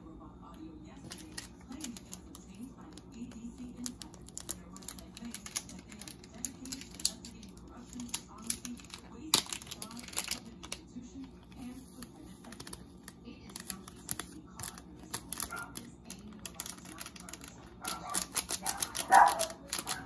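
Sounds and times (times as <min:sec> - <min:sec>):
plastic packet clicks and crinkles: 0:01.0 - 0:20.0.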